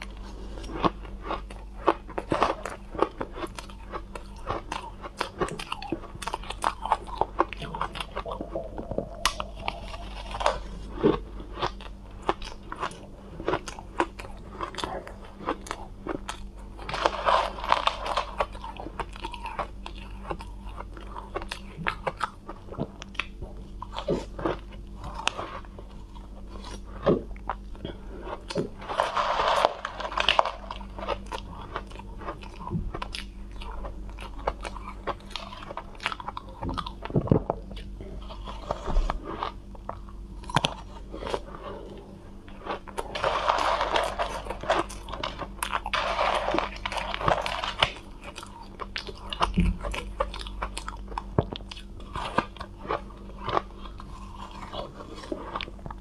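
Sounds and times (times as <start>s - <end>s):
chewing crunchy cotton candy: 0.0s - 56.0s.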